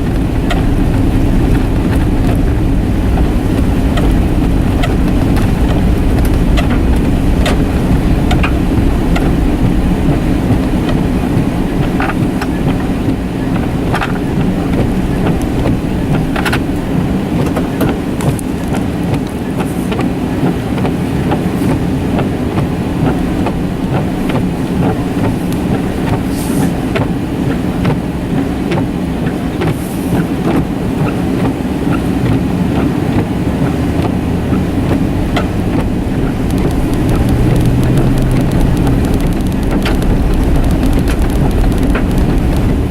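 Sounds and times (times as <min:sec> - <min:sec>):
engine and tyres rumbling: 0:00.0 - 0:42.9.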